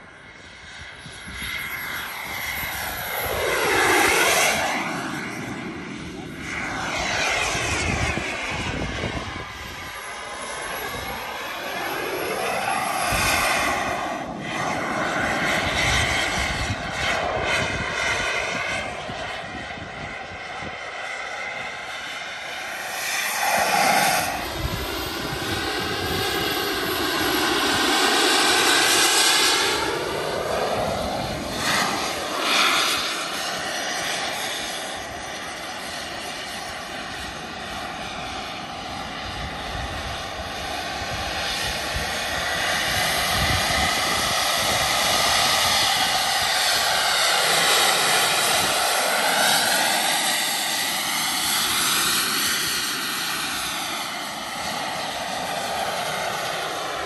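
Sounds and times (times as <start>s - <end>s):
model jet turbine whine: 0.0s - 57.0s.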